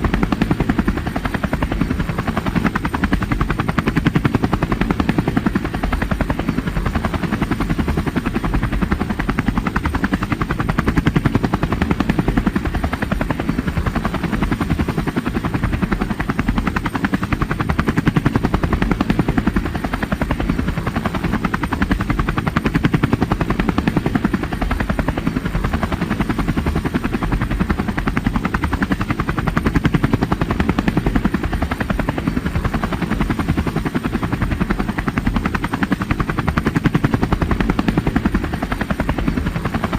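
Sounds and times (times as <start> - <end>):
helicopter engine rumble: 0.0 - 39.9
helicopter rotor chop: 0.0 - 39.9.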